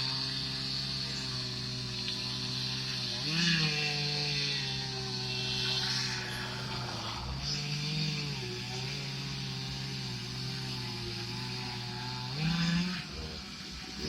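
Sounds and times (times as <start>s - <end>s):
chainsaw engine running and revving: 0.0s - 14.0s.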